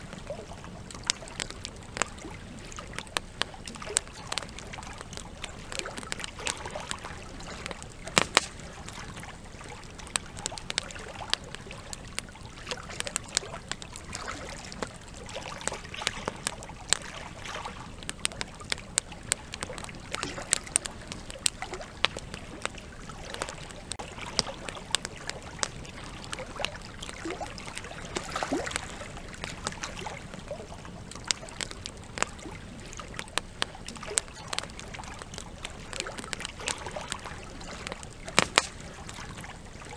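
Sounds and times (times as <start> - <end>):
campfire crackling and popping: 0.0 - 39.9
river trickling: 0.0 - 39.9.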